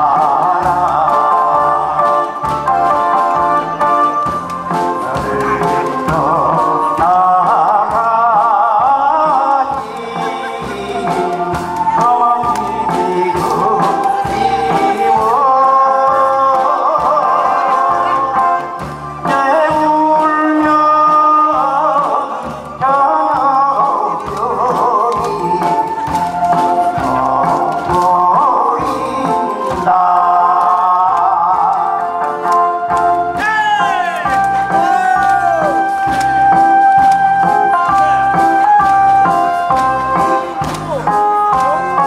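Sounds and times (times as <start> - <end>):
backing track with steady beat: 0.0 - 42.0
man singing with vibrato: 0.0 - 42.0.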